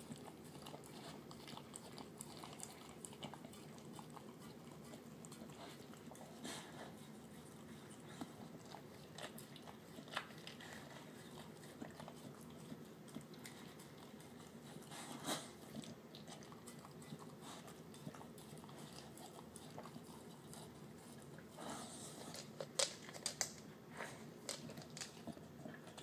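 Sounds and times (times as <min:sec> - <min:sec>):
dog chewing and licking: 0:00.0 - 0:26.0.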